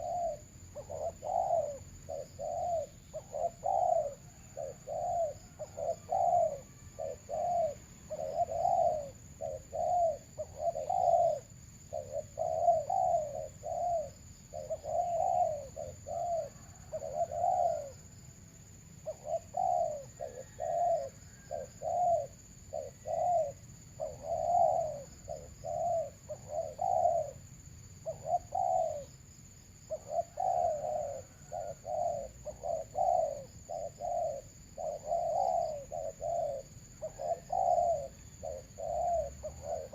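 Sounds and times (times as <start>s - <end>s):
doves cooing: 0.0s - 29.2s, 29.8s - 39.9s.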